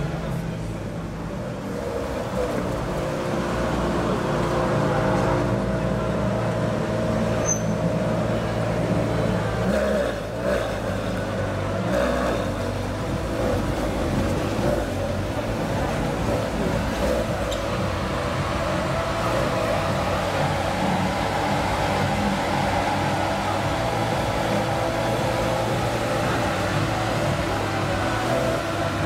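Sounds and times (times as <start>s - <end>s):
car engine running at low revs: 0.0s - 29.0s.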